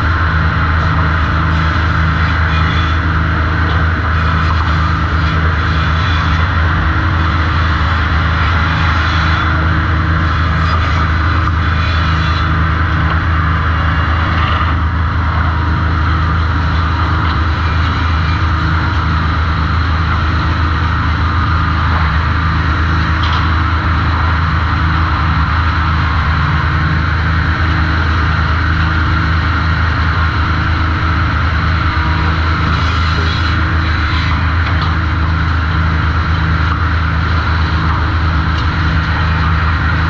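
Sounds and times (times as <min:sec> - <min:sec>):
sawmill machinery humming: 0:00.0 - 0:40.0.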